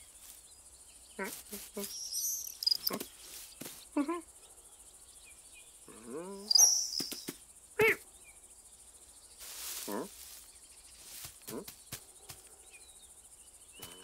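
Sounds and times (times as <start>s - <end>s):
rustle: 0.0s - 4.3s, 5.2s - 14.0s
crickets chirring: 0.0s - 14.0s.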